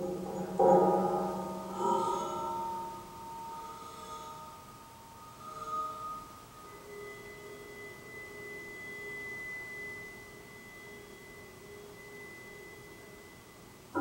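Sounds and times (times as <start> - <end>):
metal rods ringing high tone: 0.0 - 14.0.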